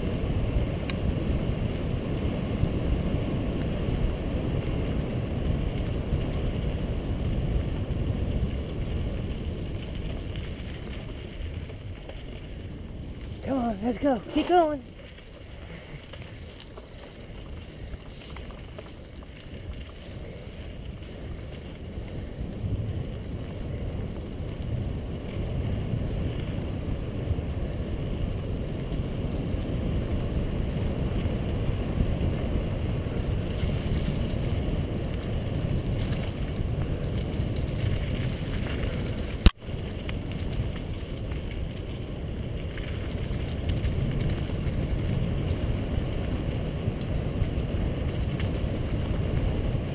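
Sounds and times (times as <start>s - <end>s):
bike tyres rumbling on dirt trail: 0.0s - 49.9s.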